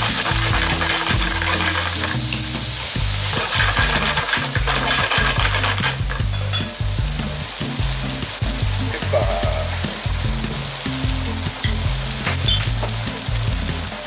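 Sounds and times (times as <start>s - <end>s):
background music with bass line: 0.0s - 14.0s
fried rice sizzling in a frying pan: 0.0s - 14.0s.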